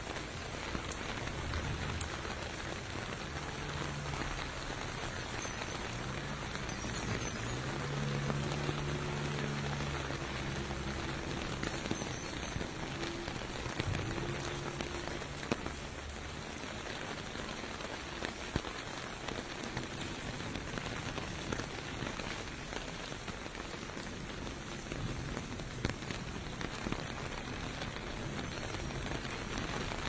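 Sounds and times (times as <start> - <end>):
low vehicle hum: 0.0 - 30.0
rain on pavement: 0.0 - 30.0.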